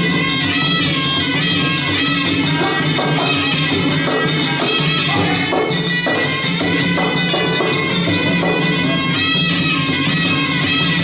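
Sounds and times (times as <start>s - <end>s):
hand drums: 0.0s - 11.0s
reedy wind instrument melody: 0.0s - 11.0s
small cymbals: 0.0s - 11.0s.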